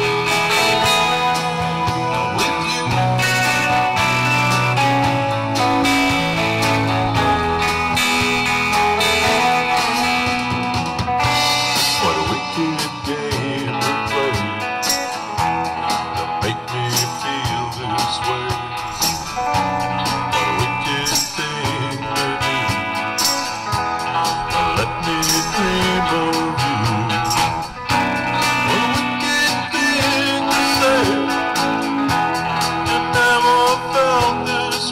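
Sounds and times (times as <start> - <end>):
blues-rock song with guitar: 0.0 - 34.9
steady drum beat: 0.0 - 34.9.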